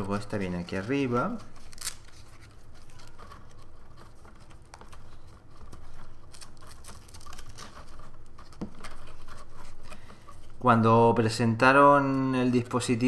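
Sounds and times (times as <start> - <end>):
fabric strap rustling: 0.0 - 10.6.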